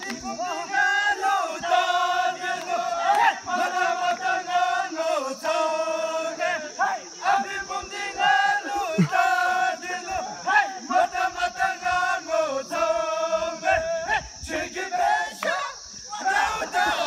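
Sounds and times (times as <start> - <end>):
men singing in unison: 0.0 - 17.0.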